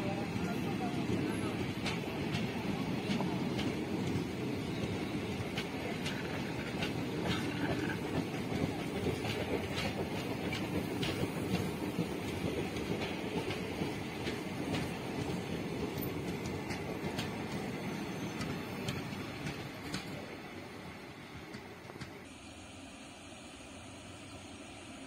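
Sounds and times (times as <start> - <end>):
train wheels rumbling on rails: 0.0 - 22.3
sharp rail clicks: 1.4 - 22.2.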